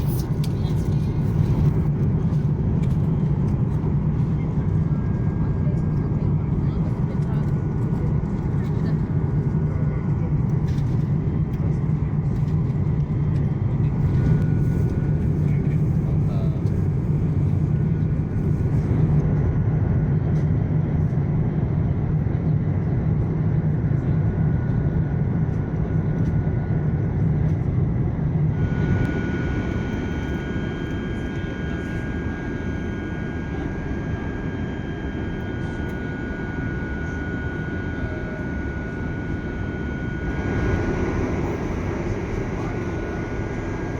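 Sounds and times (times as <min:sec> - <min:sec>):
jet airliner low rumble: 0:00.0 - 0:43.9.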